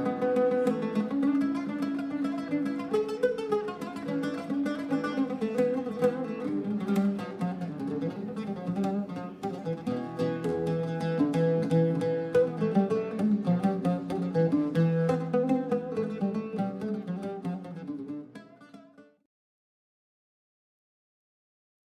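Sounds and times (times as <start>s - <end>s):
plucked string music: 0.0s - 19.2s.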